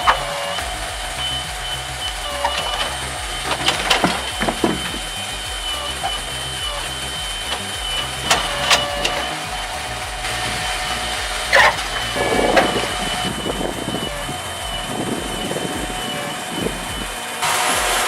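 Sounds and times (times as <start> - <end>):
harsh noise: 0.0 - 18.0
machine engine whining: 0.0 - 18.0.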